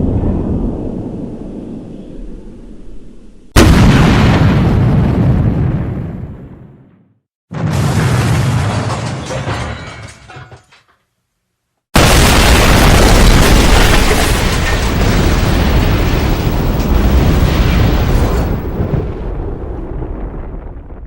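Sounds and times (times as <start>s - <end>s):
explosion rumbling: 0.0s - 1.9s, 3.6s - 10.2s, 12.0s - 21.0s.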